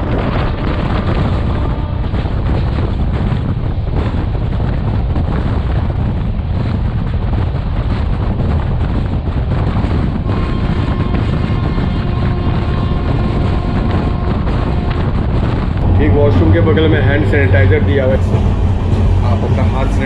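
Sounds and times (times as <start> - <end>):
train running rumble: 0.0 - 20.0
wind buffeting microphone: 0.0 - 20.0.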